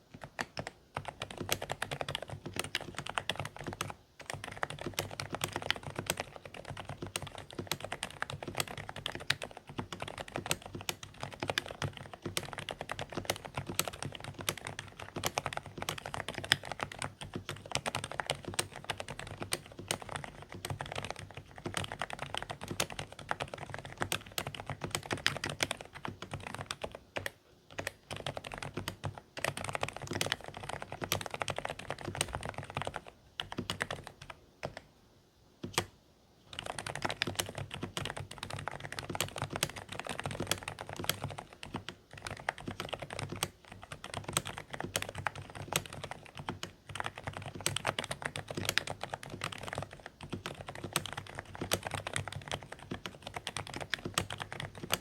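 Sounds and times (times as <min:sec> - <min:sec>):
fast typing on keyboard: 0:00.0 - 0:34.9, 0:36.5 - 0:55.0.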